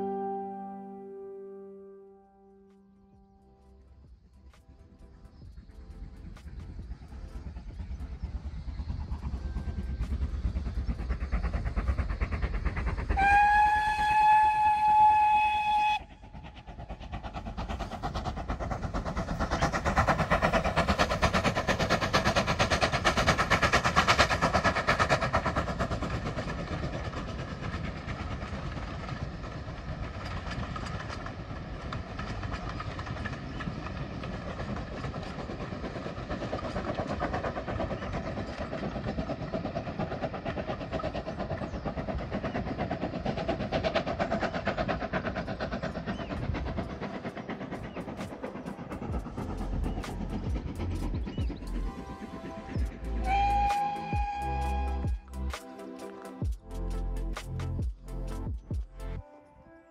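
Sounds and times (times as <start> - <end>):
steam train passing: 2.9 - 59.9.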